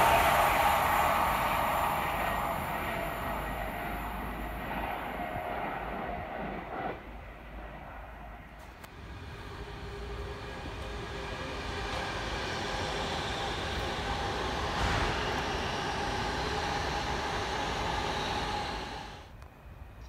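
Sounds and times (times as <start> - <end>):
train passing with rail noise: 0.0 - 20.0.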